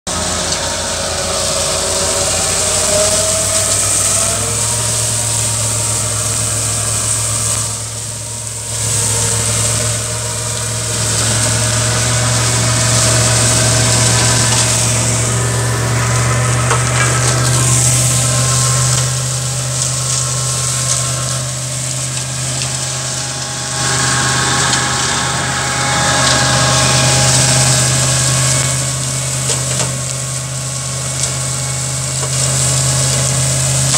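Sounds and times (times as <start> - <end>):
tractor engine drone: 0.0 - 33.9
flail mower whirring hiss: 0.1 - 33.9.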